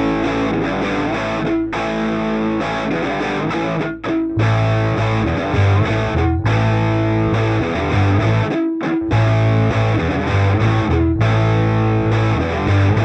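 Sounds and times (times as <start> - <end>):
bass line: 0.0 - 13.0
distorted electric guitar: 0.0 - 13.0.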